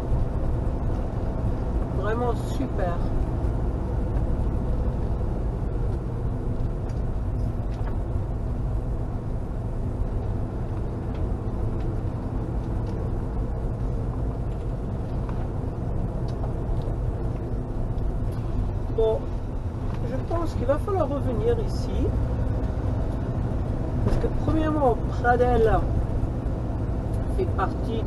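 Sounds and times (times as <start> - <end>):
engine drone: 0.0 - 28.0
road noise: 0.0 - 28.0.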